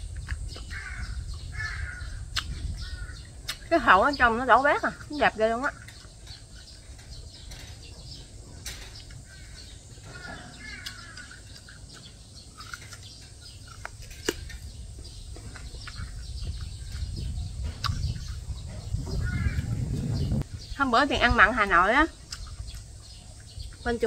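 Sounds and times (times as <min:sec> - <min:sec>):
birds chirping faintly: 0:00.0 - 0:24.0
steady low rumble: 0:00.0 - 0:24.0.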